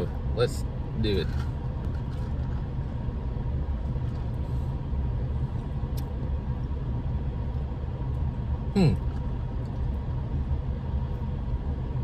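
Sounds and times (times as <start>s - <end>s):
car engine idling: 0.0s - 12.0s
faint steady hum: 0.0s - 12.0s.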